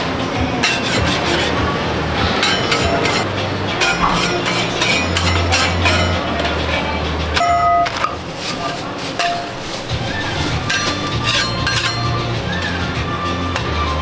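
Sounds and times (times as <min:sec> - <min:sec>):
steady low hum: 0:00.0 - 0:14.0
metal spatula scraping griddle: 0:00.6 - 0:12.4.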